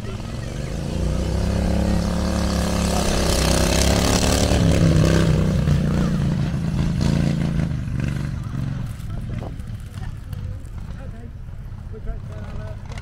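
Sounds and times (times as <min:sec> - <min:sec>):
motorcycle passing: 0:00.0 - 0:13.0.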